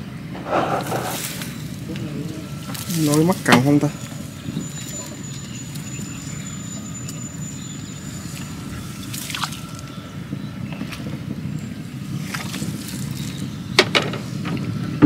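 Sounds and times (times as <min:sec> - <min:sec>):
steady low rumble: 0:00.0 - 0:13.8
water sloshing and dripping: 0:00.7 - 0:14.7.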